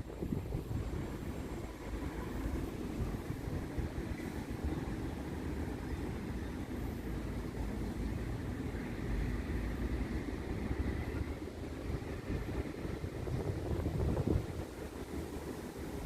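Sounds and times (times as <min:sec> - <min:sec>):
wind buffeting microphone: 0:00.0 - 0:06.5, 0:07.2 - 0:16.0.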